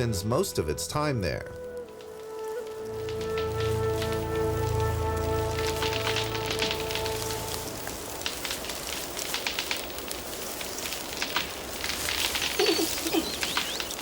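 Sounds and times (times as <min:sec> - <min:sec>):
leaves and twigs rustling: 0:01.4 - 0:14.0.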